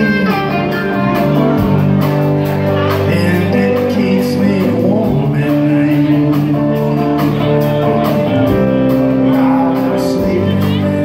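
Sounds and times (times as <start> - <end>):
rock band playing: 0.0 - 11.0.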